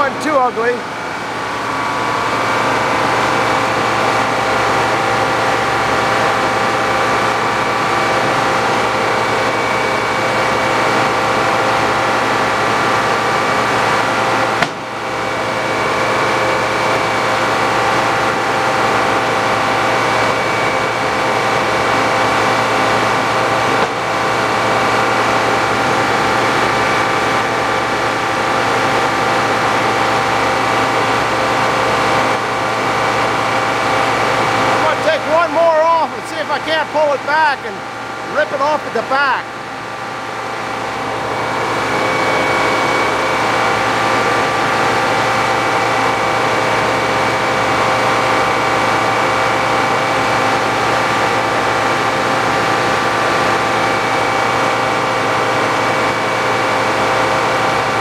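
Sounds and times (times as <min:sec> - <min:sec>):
circular sawmill running: 0:00.0 - 0:58.0.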